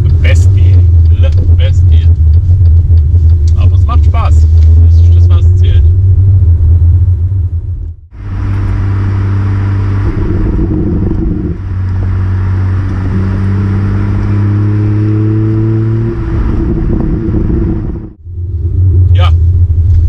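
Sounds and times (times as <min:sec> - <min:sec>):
car exhaust drone: 0:00.0 - 0:20.0.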